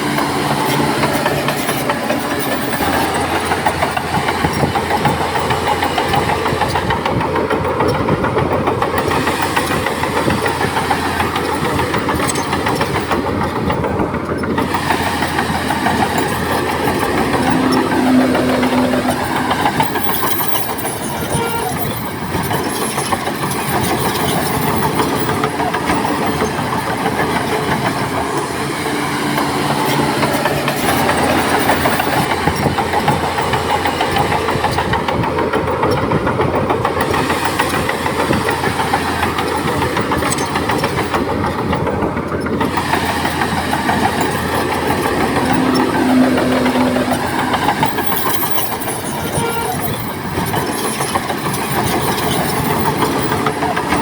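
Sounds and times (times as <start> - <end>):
heavy diesel machinery engine: 0.0 - 54.0.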